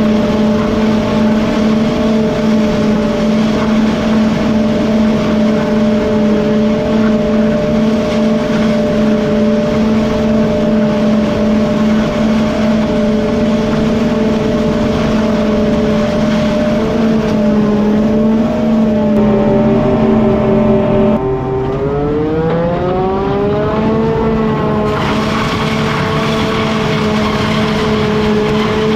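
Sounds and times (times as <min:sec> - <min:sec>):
heavy machinery engine revving: 0:00.0 - 0:28.9.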